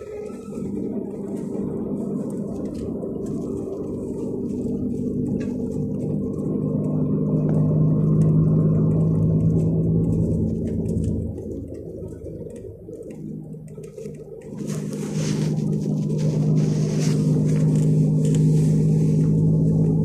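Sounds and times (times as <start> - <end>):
coach diesel engine running: 0.0 - 20.0.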